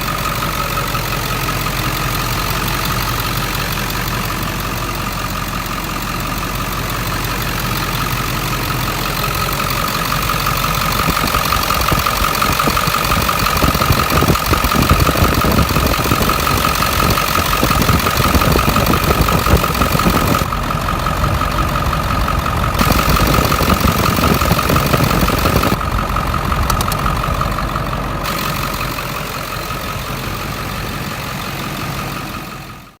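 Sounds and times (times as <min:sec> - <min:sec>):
high turbo whine: 0:00.0 - 0:32.9
diesel engine idling: 0:00.0 - 0:33.0.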